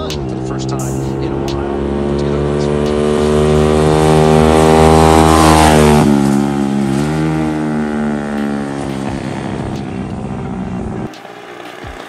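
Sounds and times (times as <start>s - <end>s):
go-kart engine passing by: 0.0s - 12.0s.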